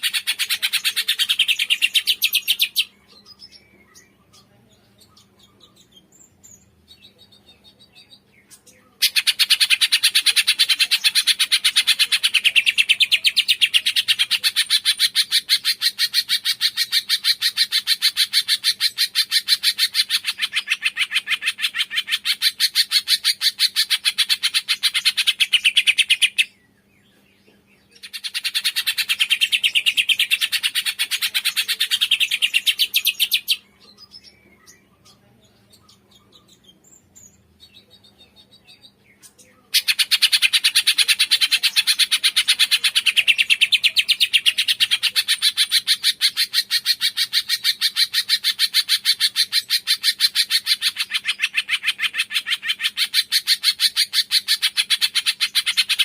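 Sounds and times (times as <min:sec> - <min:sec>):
faint bird chirps: 0:00.0 - 0:56.0.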